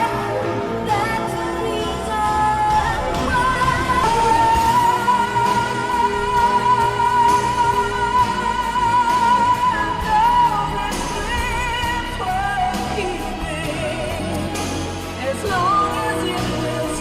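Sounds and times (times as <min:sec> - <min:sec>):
pop ballad singing: 0:00.0 - 0:17.0.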